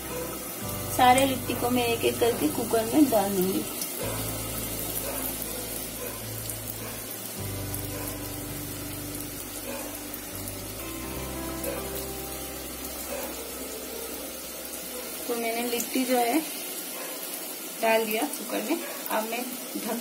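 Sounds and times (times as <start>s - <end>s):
faint background music: 0.0s - 20.0s
gas burner hissing: 0.0s - 20.0s
oil sizzling: 0.0s - 20.0s.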